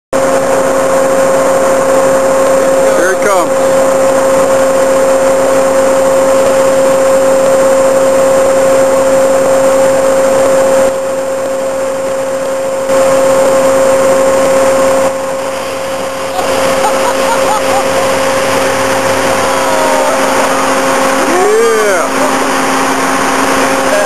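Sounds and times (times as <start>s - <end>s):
armored vehicle engine whining: 0.2s - 24.0s.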